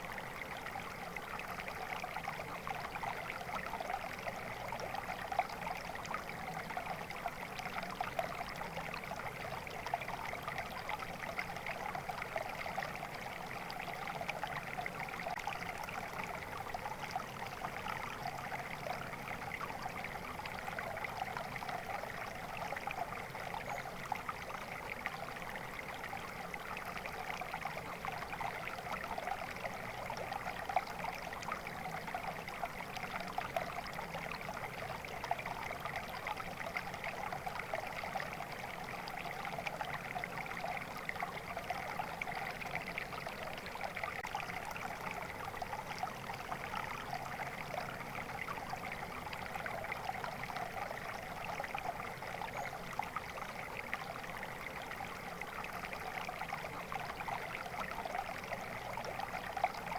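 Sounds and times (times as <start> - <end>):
stream babbling and trickling: 0.0 - 59.9.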